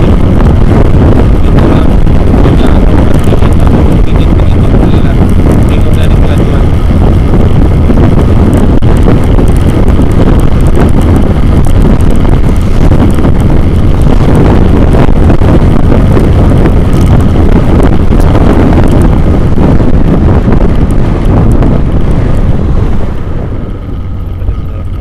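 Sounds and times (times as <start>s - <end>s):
deep vehicle rumble: 0.0s - 25.0s
wind buffeting microphone: 0.0s - 25.0s.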